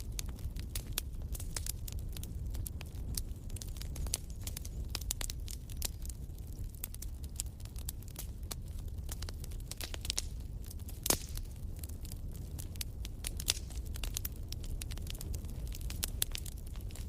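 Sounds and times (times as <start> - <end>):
low rumble of fire: 0.0 - 17.0
sharp pops of fire: 0.0 - 17.0
wood fire crackling: 0.0 - 17.0.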